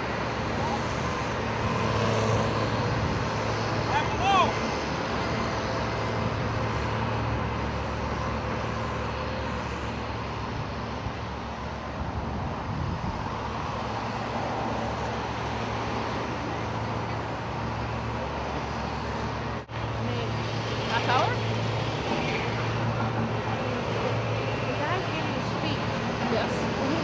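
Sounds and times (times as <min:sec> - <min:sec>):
road traffic drone: 0:00.0 - 0:27.0.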